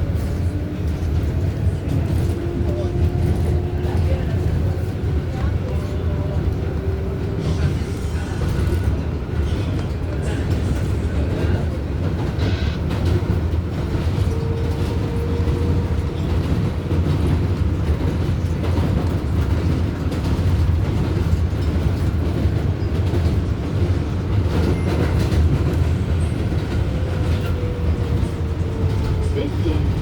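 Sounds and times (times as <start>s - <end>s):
subway wheels rumbling on rail: 0.0s - 30.0s.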